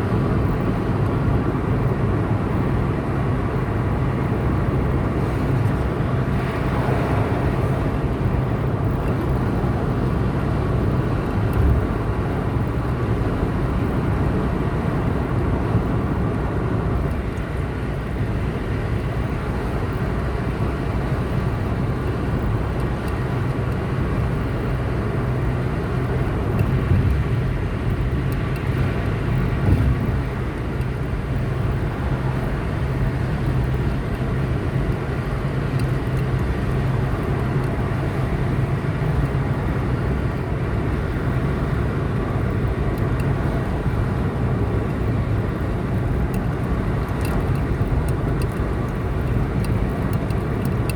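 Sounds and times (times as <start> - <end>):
car engine drone: 0.0 - 50.9
road noise: 0.0 - 50.9.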